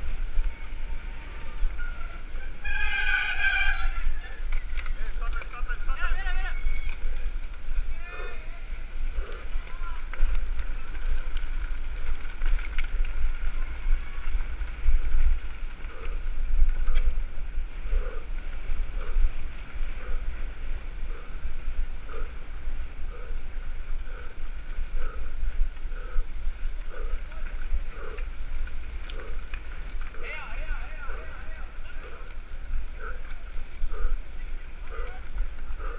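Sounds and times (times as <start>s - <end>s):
bike tyres rumbling on dirt: 0.0s - 35.9s.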